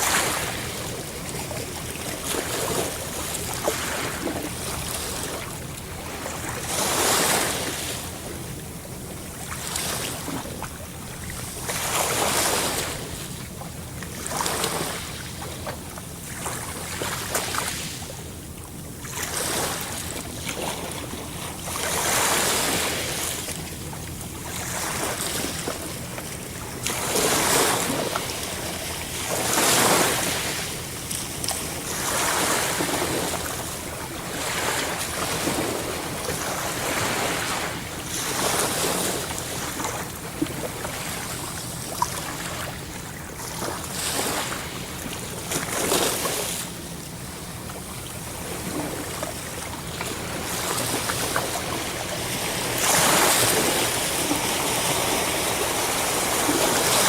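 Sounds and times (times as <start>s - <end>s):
sea waves washing in: 0.0s - 18.4s, 19.0s - 57.0s.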